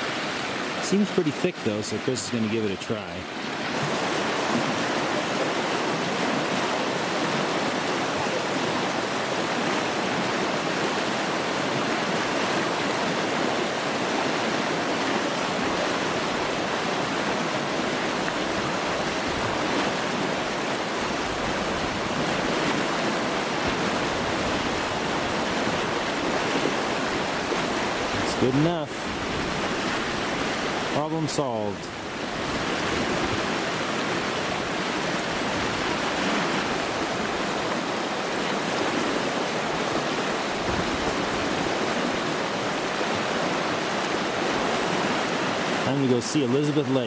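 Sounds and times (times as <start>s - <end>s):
mountain creek rushing: 0.0s - 47.0s.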